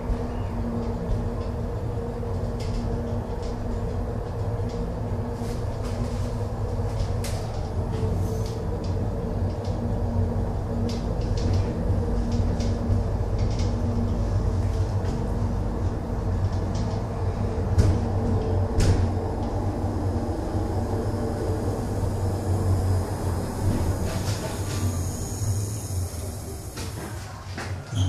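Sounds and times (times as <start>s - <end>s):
funicular mechanical hum and rumble: 0.0s - 28.0s.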